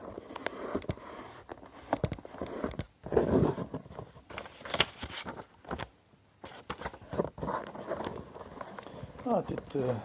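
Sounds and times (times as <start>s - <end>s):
paper being folded and creased: 0.0s - 10.0s.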